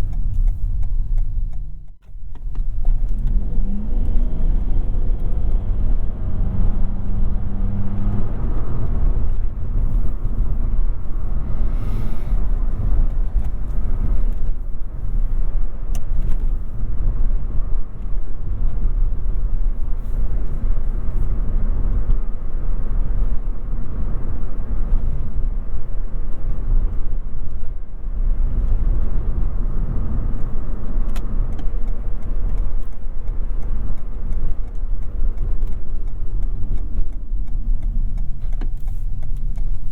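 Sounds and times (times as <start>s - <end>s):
engine hum: 0.0s - 39.9s
road and tyre rumble: 0.0s - 39.9s.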